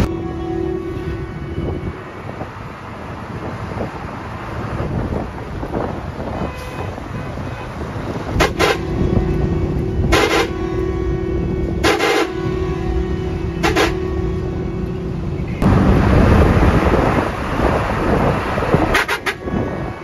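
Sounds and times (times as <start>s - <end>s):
bus engine and road rumble: 0.0s - 20.0s
wind through open windows: 0.8s - 20.0s.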